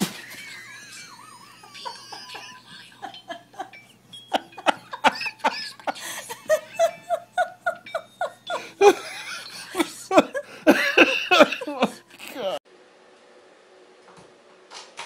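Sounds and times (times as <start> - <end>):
person laughing hard: 0.0 - 12.6.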